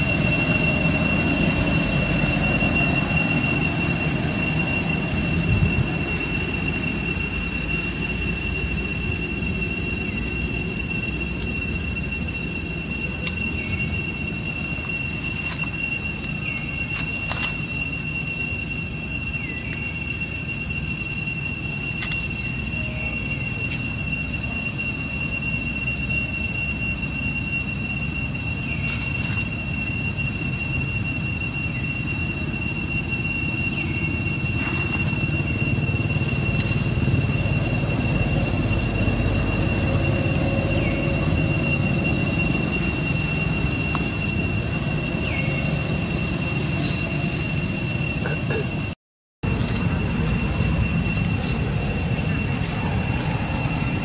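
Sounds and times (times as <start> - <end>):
high-pitched two-tone whine: 0.0 - 54.0.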